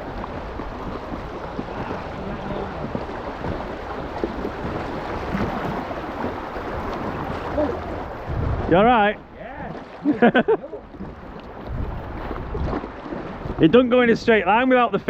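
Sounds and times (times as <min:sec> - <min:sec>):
water rushing over rocks: 0:00.0 - 0:14.8.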